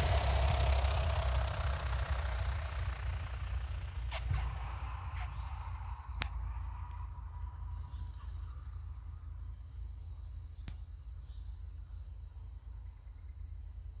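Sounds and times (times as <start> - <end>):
faint high insect drone: 0.0 - 14.0.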